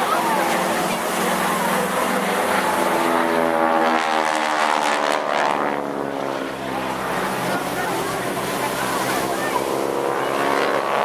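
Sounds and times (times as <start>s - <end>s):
light aircraft engine and propeller: 0.0s - 11.0s.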